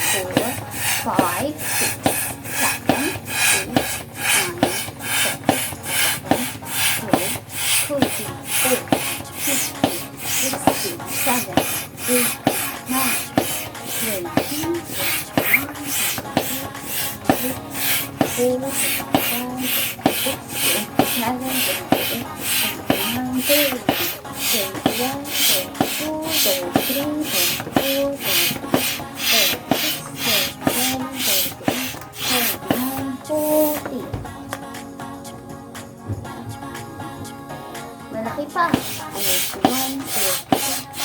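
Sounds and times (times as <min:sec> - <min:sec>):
pump squeak: 0:00.0 - 0:34.0, 0:38.7 - 0:41.0
hand pump rasping strokes: 0:00.0 - 0:34.3, 0:38.5 - 0:41.0.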